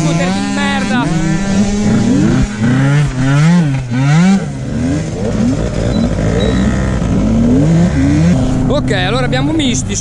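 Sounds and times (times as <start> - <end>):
two-stroke scooters revving: 0.0 - 10.0.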